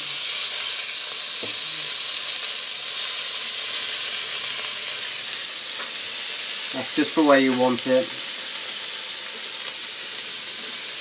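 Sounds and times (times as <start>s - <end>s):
cheese sizzling on griddle pan: 0.0s - 11.0s.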